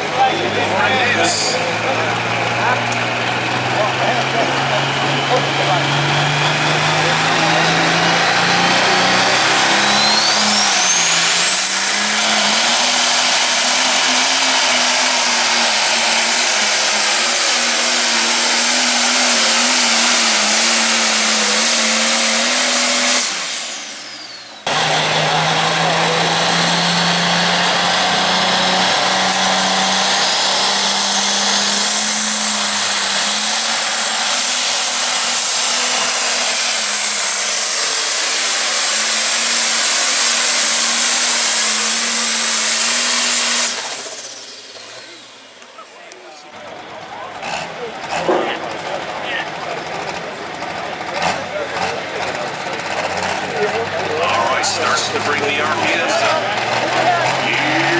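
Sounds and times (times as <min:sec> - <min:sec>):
diesel tractor engine under load: 0:00.0 - 0:57.9
high turbo whine: 0:00.0 - 0:57.9.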